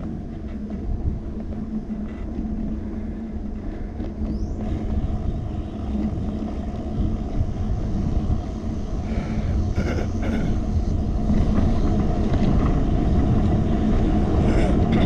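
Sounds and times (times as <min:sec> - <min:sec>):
bicycle tyres rolling on road: 0:00.0 - 0:15.0
wind buffeting microphone: 0:00.0 - 0:15.0.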